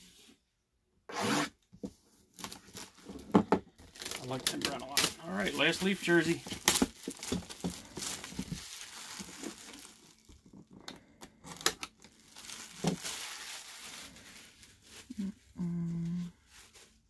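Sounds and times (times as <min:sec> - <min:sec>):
plastic wrap crackling: 0:02.3 - 0:17.0
plastic wrap crinkling: 0:02.3 - 0:17.0.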